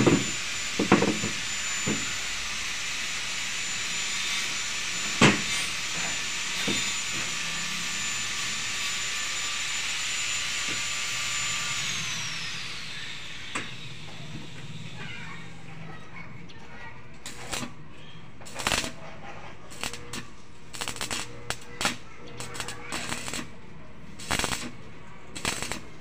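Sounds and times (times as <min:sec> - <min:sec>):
power tool motor whining: 0:00.0 - 0:15.8, 0:17.2 - 0:26.0.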